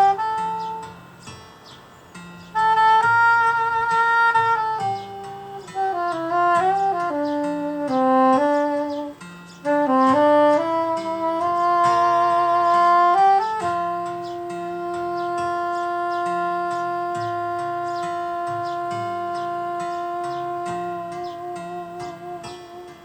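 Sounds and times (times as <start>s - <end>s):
saxophone melody: 0.0s - 1.7s, 2.4s - 23.0s
lower accompanying line: 0.0s - 23.0s.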